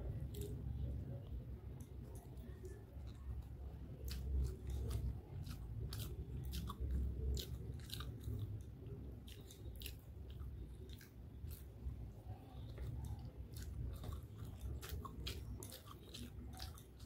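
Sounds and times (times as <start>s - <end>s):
person chewing noodles: 0.0s - 17.0s.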